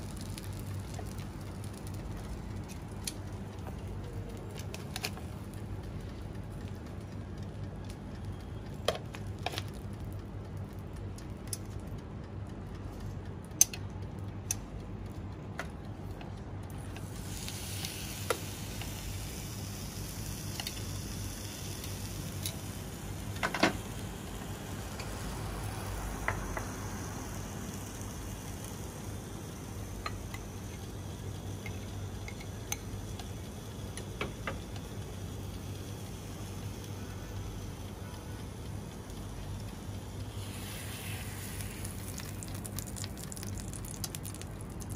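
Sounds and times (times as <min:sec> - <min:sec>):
prawns sizzling on a grill: 0:00.0 - 0:11.7, 0:16.8 - 0:44.9.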